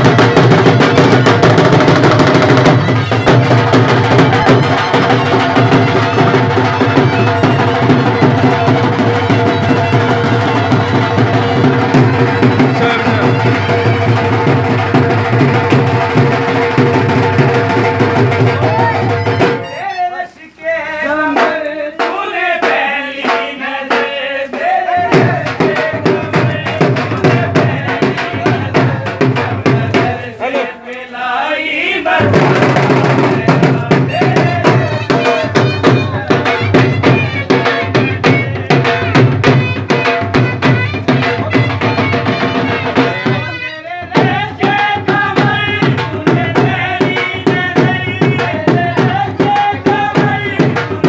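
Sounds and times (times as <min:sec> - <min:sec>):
dhol drumming with sticks: 0:00.0 - 0:20.0, 0:21.0 - 0:30.8, 0:31.9 - 0:51.0.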